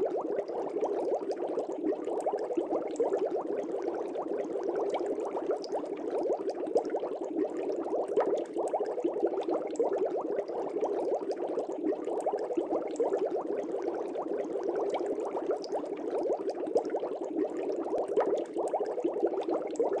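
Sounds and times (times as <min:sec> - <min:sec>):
air bubbles in fish tank: 0:00.0 - 0:20.0.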